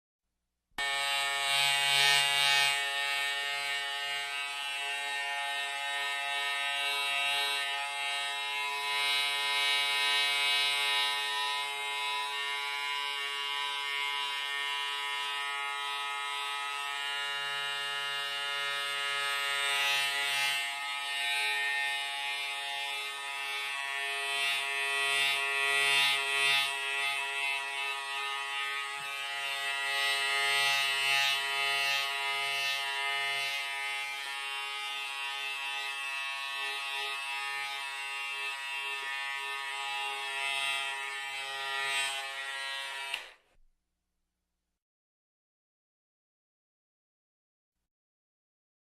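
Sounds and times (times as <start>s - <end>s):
electric hair clipper buzzing: 0.8s - 43.6s.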